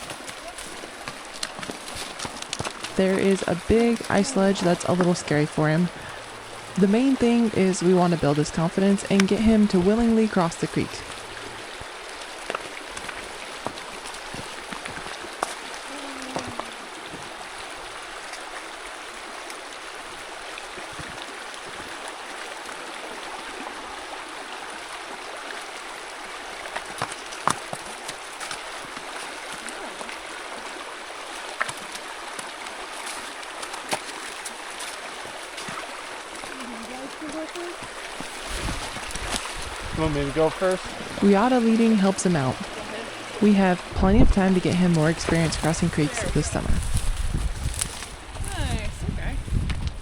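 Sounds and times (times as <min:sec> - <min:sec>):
creek water babbling: 0:00.0 - 0:50.0.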